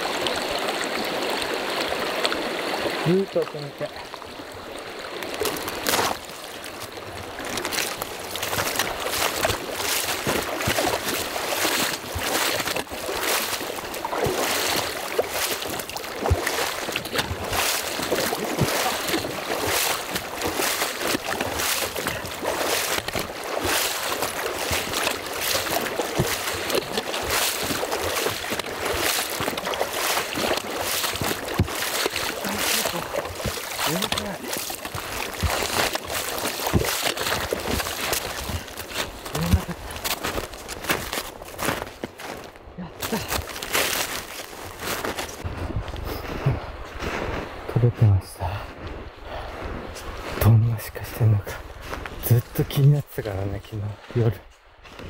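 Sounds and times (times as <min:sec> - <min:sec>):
river water rushing: 0:00.0 - 0:45.6
splashing footsteps in water: 0:00.0 - 0:47.8, 0:48.7 - 0:55.0.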